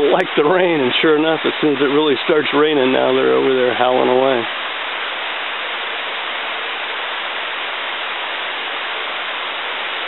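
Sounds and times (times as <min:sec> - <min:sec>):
heavy rain on canopy: 0:00.0 - 0:10.0.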